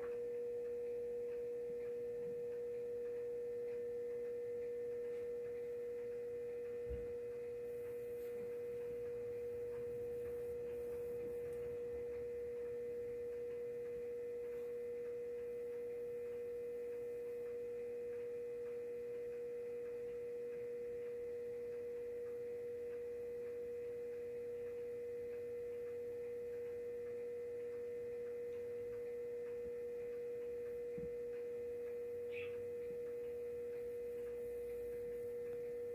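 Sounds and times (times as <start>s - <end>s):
steady pure tone: 0.0s - 35.9s.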